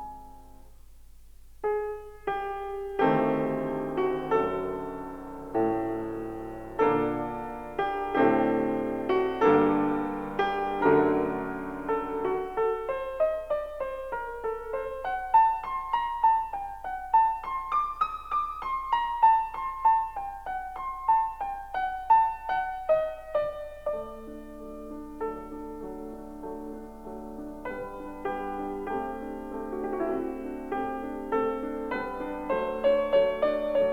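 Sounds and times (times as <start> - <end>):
solo piano music: 0.0 - 33.9.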